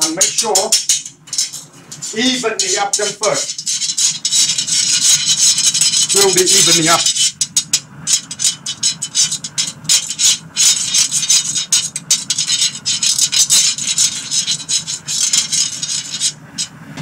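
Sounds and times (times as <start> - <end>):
metal spoon scraping griddle pan: 0.0 - 16.8
extractor fan humming: 0.0 - 17.0.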